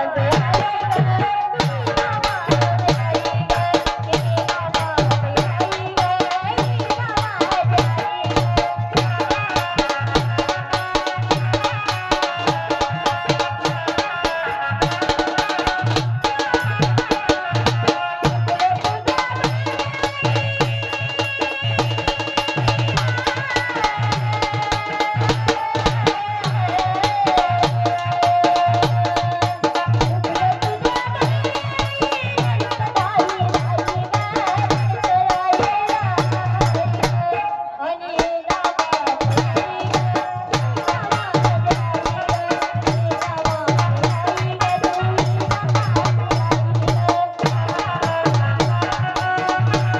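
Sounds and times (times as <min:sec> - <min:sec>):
music with fast percussion beat: 0:00.0 - 0:37.6, 0:38.2 - 0:49.9
drum rhythm: 0:00.0 - 0:49.9.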